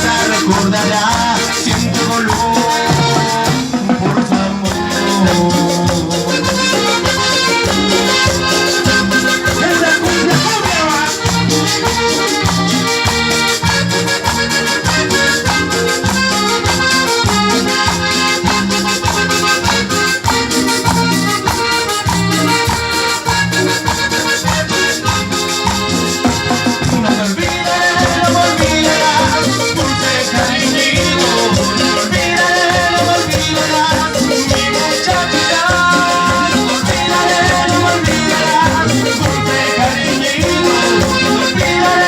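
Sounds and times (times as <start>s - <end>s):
shaken percussion: 0.0s - 42.0s
held-note melody: 4.6s - 42.0s.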